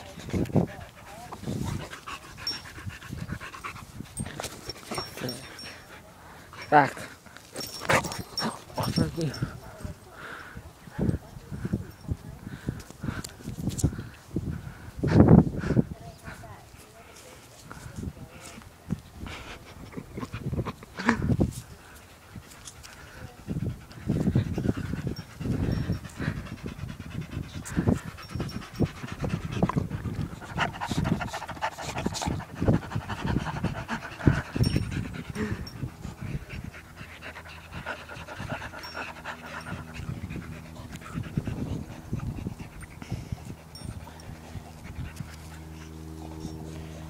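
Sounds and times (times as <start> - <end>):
dog panting: 0.0 - 11.9, 14.0 - 47.0.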